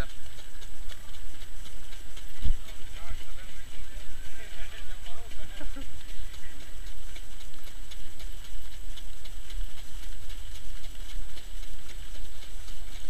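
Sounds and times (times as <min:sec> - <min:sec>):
hooves clip-clopping on dirt track: 0:00.0 - 0:13.0.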